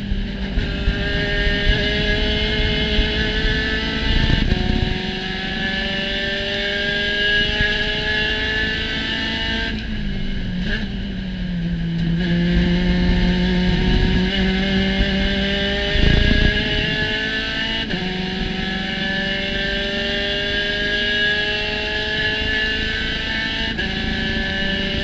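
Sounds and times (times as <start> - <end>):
race car engine revving: 0.0 - 25.0
wind and road noise: 0.0 - 25.0.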